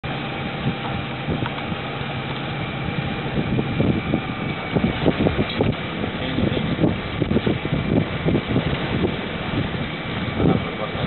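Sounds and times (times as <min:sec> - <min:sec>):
wind and water rushing: 0:00.0 - 0:11.0
wind buffeting microphone: 0:00.0 - 0:11.0.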